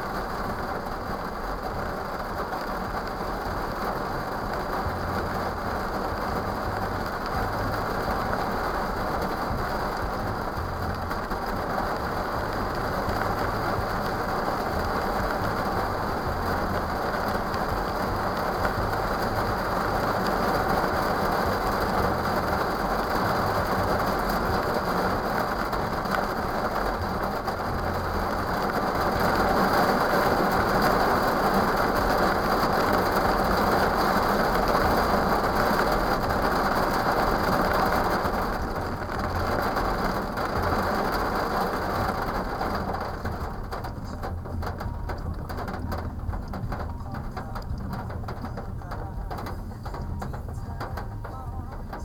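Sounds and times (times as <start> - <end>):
rain on a car: 0.0 - 52.0.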